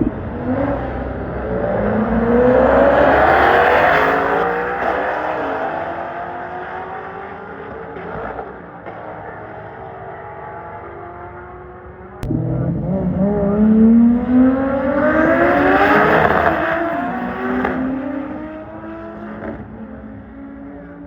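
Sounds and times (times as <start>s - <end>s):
car engine accelerating: 0.0s - 19.7s.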